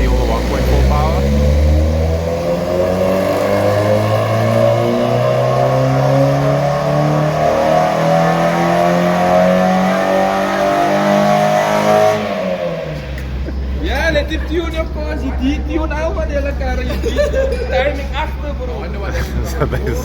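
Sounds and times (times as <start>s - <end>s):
car engine at full throttle: 0.0s - 16.8s.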